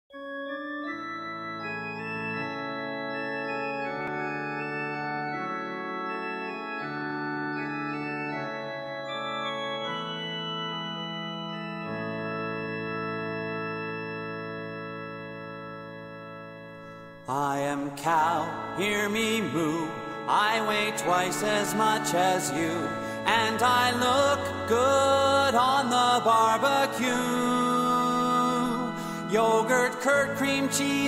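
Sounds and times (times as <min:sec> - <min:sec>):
sustained organ chords: 0:00.1 - 0:31.0.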